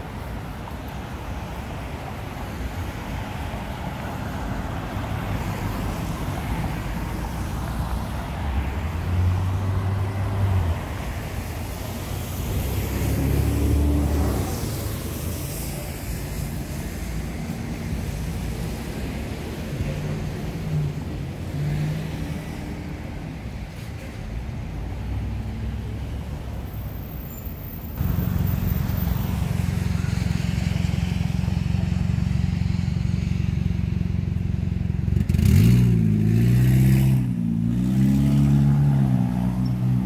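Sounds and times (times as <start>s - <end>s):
cars driving by on wet street: 0.0s - 40.0s.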